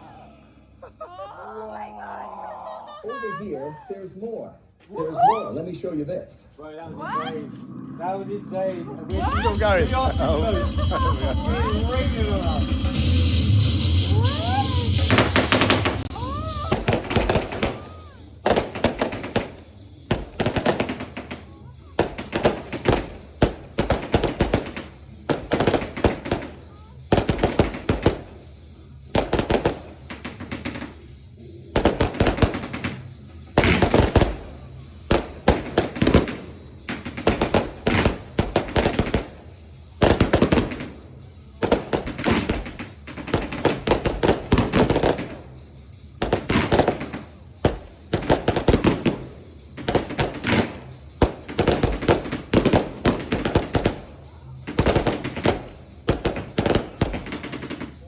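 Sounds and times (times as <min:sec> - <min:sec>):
fireworks rapid bangs: 0:09.1 - 0:58.0.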